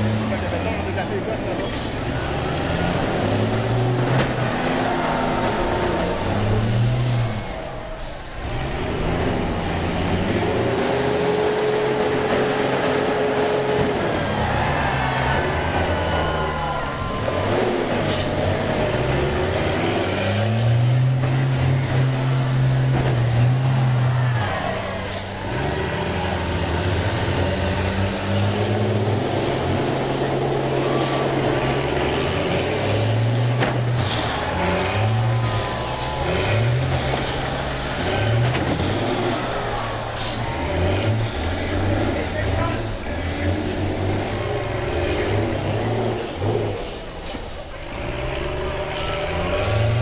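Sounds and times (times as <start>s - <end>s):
bus engines revving: 0.0s - 50.0s.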